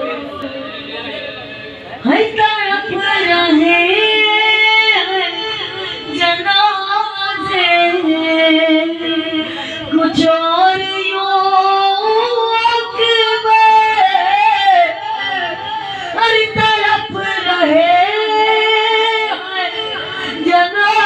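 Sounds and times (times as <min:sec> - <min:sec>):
high voice chanting a lament: 0:00.0 - 0:21.0.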